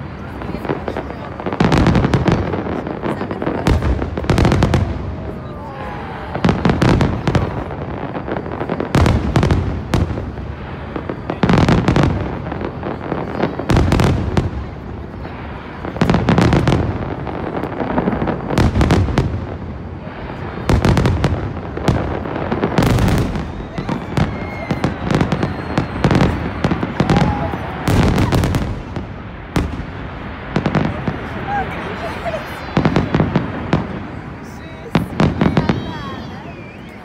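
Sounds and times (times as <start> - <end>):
firework booms: 0.0 - 36.7
firework crackling: 0.0 - 37.0.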